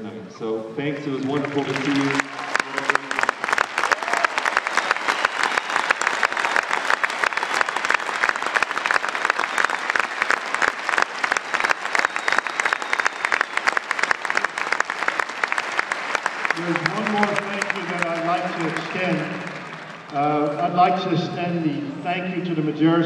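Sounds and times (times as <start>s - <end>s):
crowd applauding: 0.9s - 21.2s.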